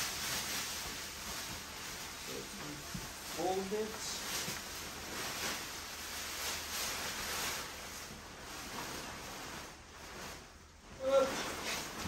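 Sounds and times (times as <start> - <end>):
fabric and plastic wrapping rustling: 0.0 - 12.0.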